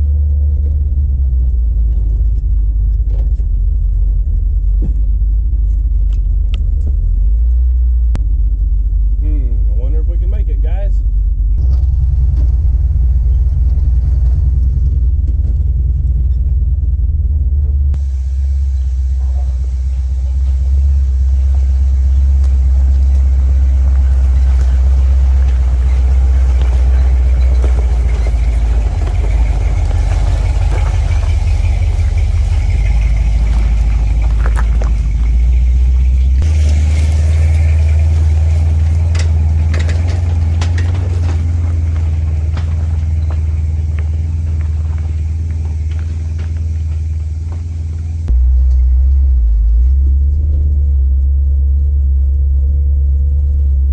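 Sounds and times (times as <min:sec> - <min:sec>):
pickup truck driving on gravel: 0:00.0 - 0:53.9.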